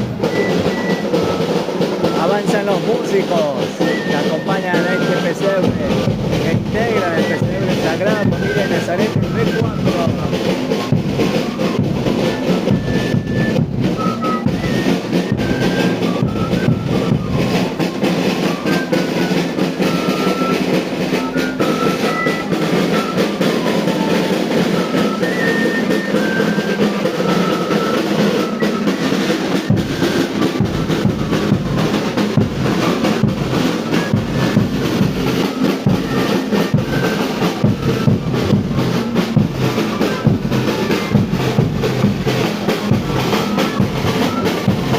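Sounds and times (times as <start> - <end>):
high stepping melody: 0.0 - 44.9
snare and bass drumming: 0.0 - 44.9.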